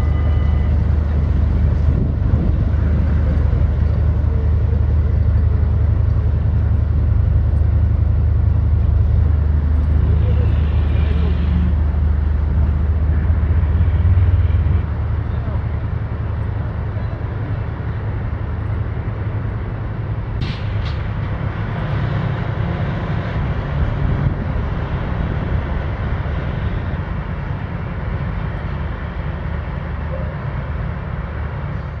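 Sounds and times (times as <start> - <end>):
outdoor noise: 0.0 - 32.0
ship engines rumbling: 0.0 - 32.0.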